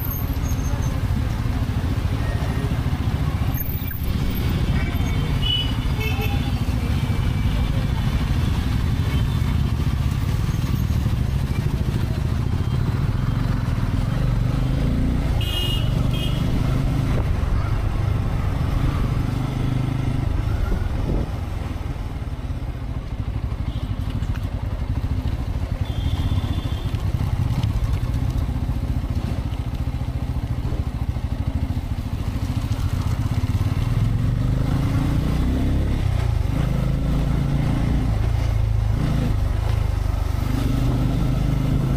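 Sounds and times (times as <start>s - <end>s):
motorcycle engine running: 0.0s - 41.9s
road and wind noise: 0.0s - 41.9s.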